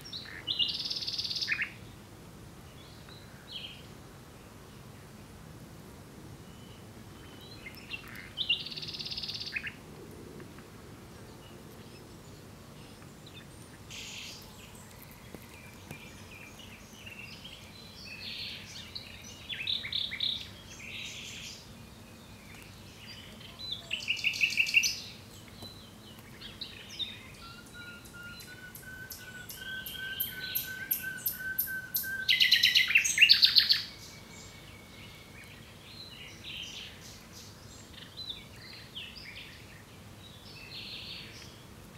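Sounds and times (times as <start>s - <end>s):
nightingale singing: 0.0s - 1.9s, 6.5s - 9.8s, 12.8s - 41.6s.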